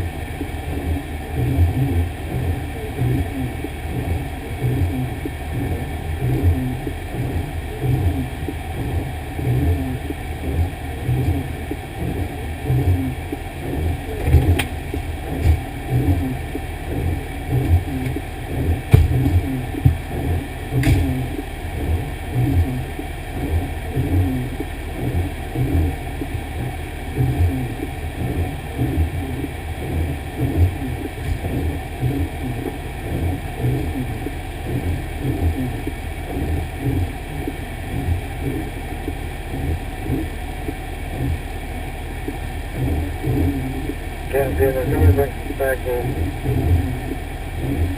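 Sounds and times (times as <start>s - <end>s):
fire engine rumbling: 0.0s - 47.9s.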